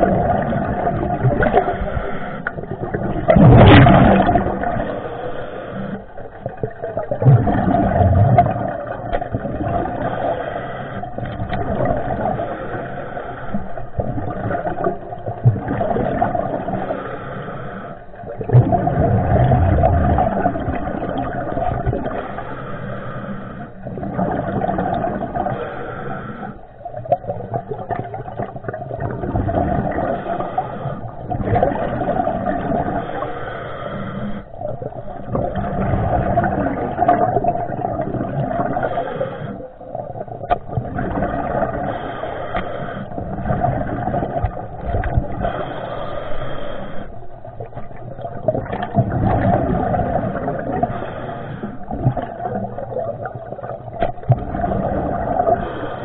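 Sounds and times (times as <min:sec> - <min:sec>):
muffled underwater surging: 0:00.0 - 0:56.0.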